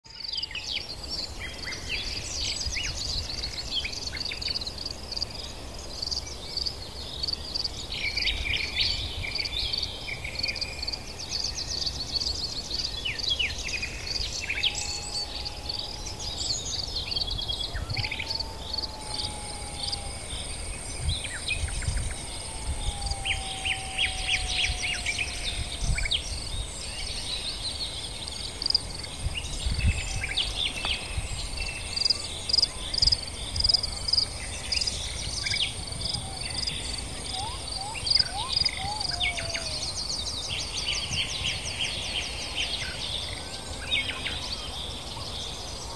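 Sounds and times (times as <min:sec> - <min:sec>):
small birds chirping: 0:00.2 - 0:45.9.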